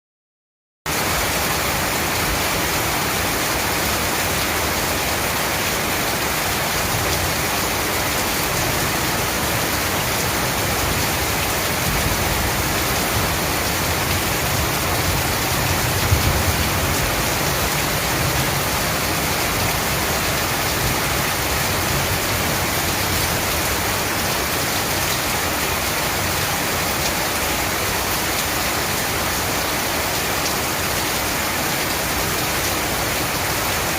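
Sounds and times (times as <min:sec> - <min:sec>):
heavy rain falling: 0:00.9 - 0:33.9.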